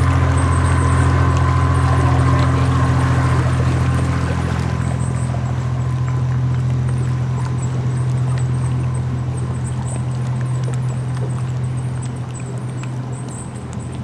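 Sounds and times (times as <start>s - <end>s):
boat engine droning: 0.0s - 14.0s
boat moving through water: 0.0s - 14.0s.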